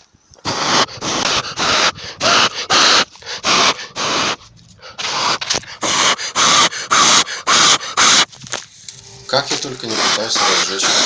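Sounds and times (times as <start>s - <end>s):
person blowing breath puffs: 0.4s - 11.0s.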